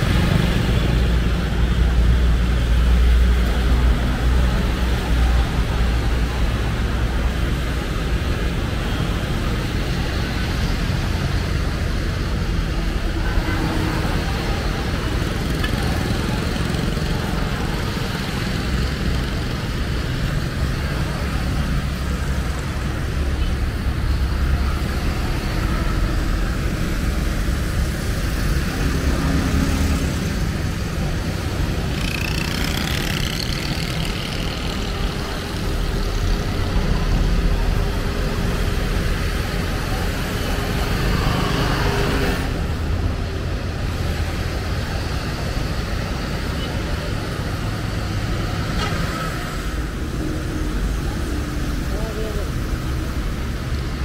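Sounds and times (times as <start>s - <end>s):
car engines passing by: 0.0s - 54.0s.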